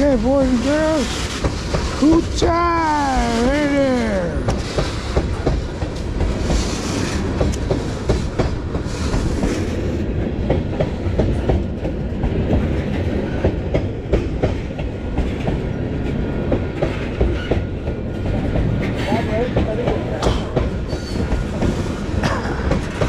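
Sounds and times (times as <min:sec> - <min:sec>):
train rumbling past: 0:00.0 - 0:23.0
wheels clacking over rail joints: 0:00.0 - 0:23.0.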